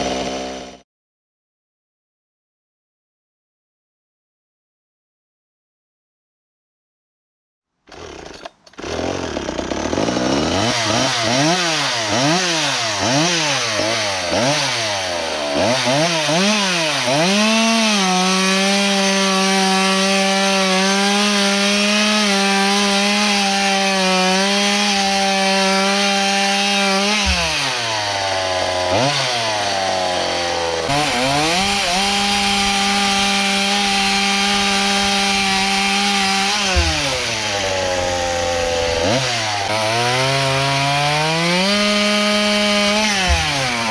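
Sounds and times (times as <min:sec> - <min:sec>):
chainsaw revving: 0:00.0 - 0:00.8, 0:07.9 - 0:43.9.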